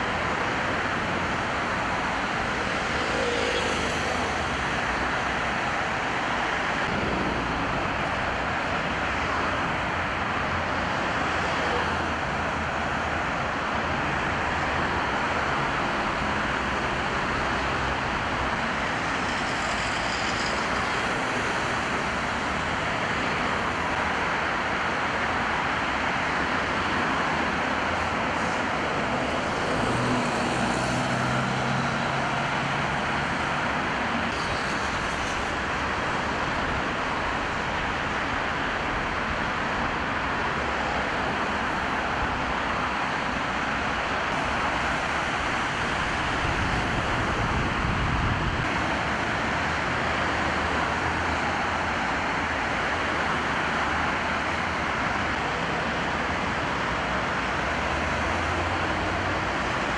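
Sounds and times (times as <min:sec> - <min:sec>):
engines passing: 0:00.0 - 0:59.9
tyres hissing on wet road: 0:00.0 - 0:59.9.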